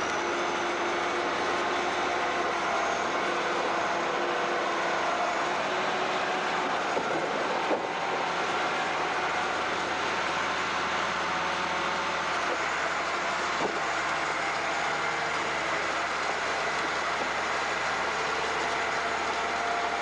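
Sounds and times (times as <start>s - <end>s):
tractor engine rumbling: 0.0s - 20.0s.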